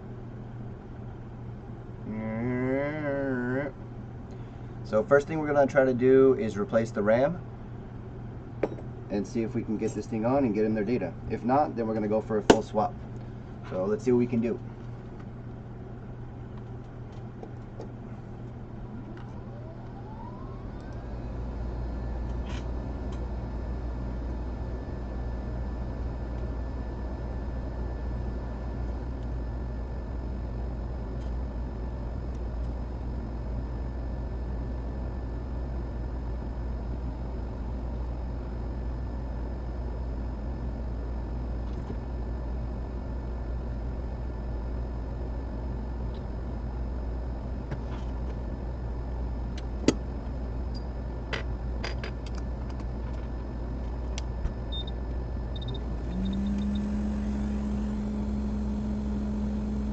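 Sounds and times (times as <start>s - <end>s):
repair equipment hum and hiss: 0.0s - 59.9s.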